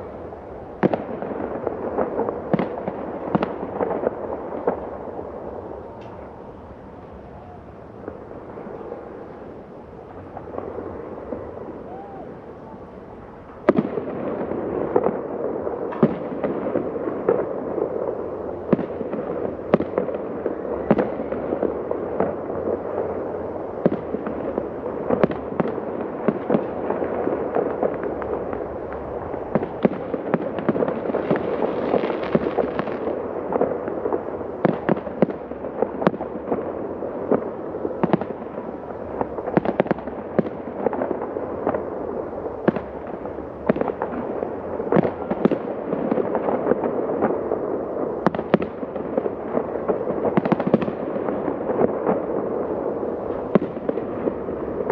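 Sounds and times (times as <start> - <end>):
echoing rumble of fireworks: 0.0 - 54.9
sharp firework cracks and bangs: 0.0 - 54.9.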